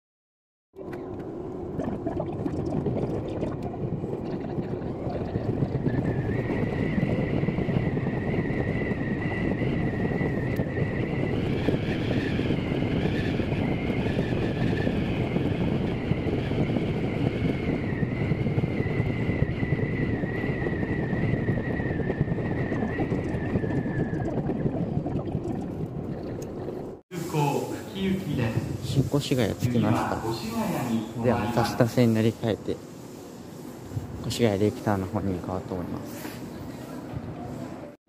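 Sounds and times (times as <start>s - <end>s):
high wavering whine: 0.8s - 35.9s.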